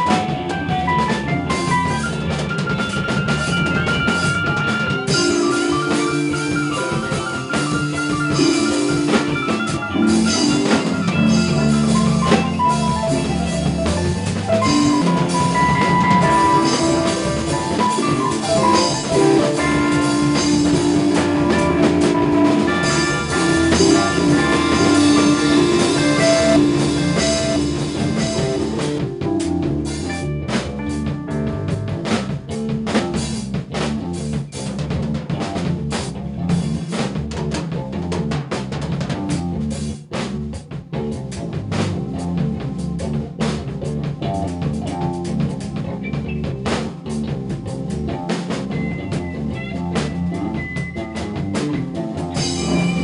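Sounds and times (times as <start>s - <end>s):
drum kit: 0.0s - 53.0s
jazz-rock band playing: 0.0s - 53.0s.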